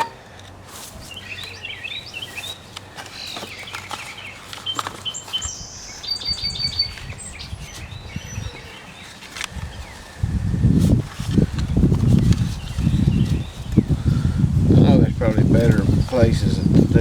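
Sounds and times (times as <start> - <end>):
small birds chirping: 0.9 - 17.0.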